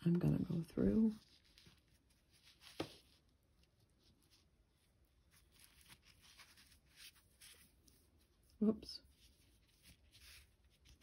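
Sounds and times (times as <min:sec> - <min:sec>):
yarn rustling through stitches: 0:00.0 - 0:11.0.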